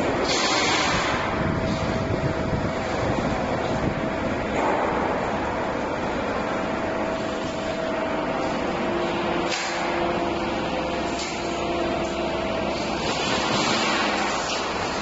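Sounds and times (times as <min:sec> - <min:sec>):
workshop machinery hiss and rumble: 0:00.0 - 0:15.0.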